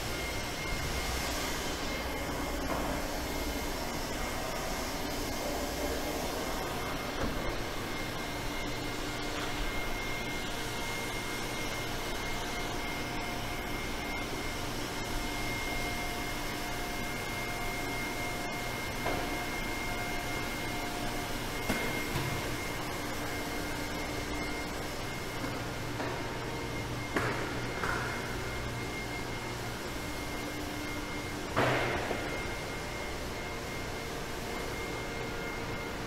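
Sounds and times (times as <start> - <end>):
high machine whine: 0.0 - 36.0
low machine tone: 0.0 - 36.0
machinery humming and whirring: 0.0 - 36.0.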